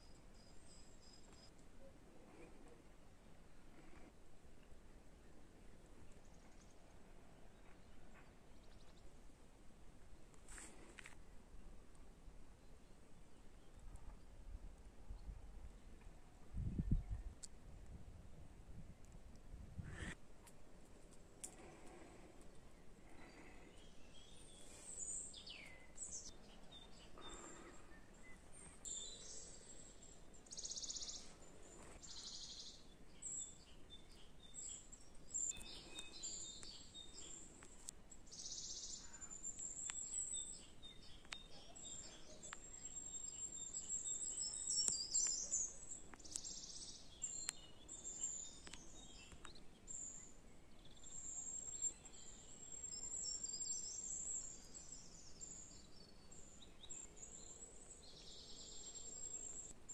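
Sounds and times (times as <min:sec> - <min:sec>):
songbirds chirping and trilling: 0:00.0 - 0:17.6, 0:19.0 - 0:59.9.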